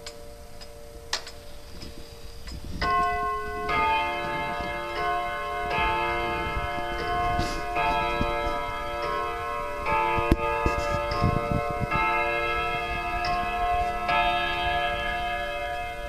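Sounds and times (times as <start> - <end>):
clock chiming metallic notes: 2.7 - 16.0.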